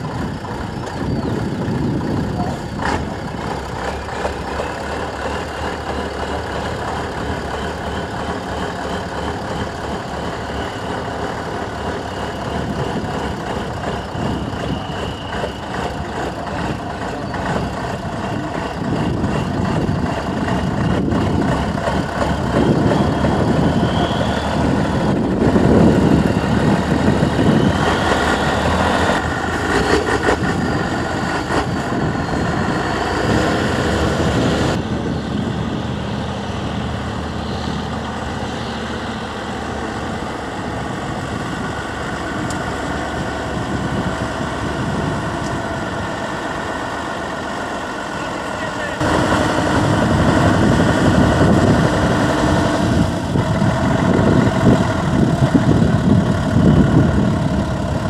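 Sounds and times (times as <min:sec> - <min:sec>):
diesel truck engine under load: 0:00.0 - 0:58.0.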